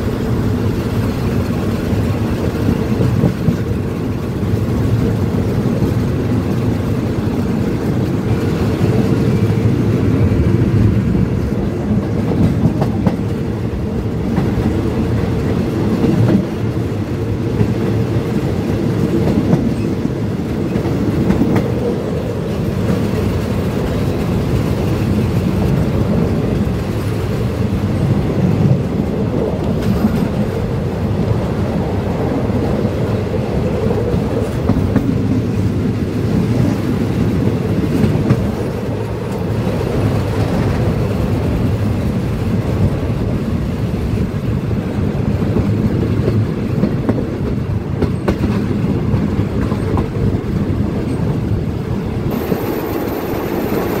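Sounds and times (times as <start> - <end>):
train clatter: 0.0 - 54.0
train wheels rumbling on rails: 0.0 - 54.0.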